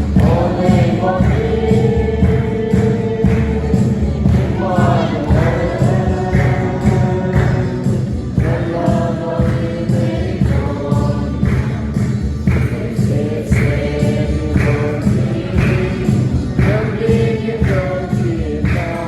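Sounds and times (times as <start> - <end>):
choir singing gospel song: 0.0 - 19.0
instrumental backing: 0.0 - 19.0.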